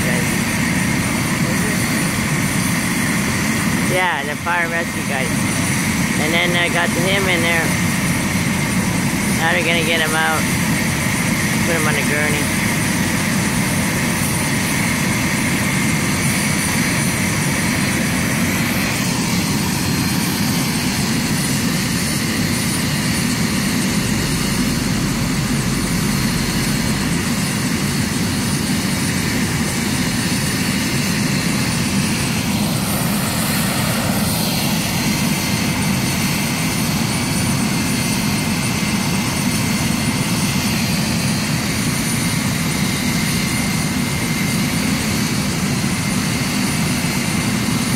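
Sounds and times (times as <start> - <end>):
helicopter engine and rotors: 0.0 - 47.9.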